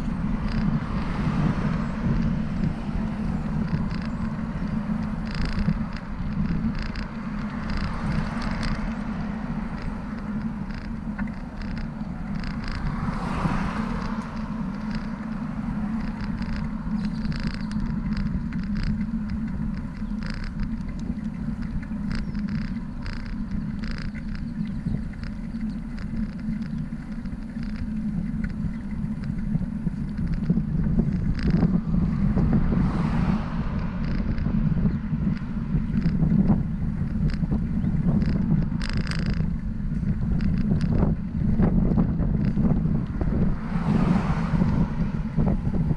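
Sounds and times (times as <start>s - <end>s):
light rattling clicks: 0.0s - 45.9s
passing traffic: 0.0s - 45.9s
wind and road noise: 0.0s - 45.9s.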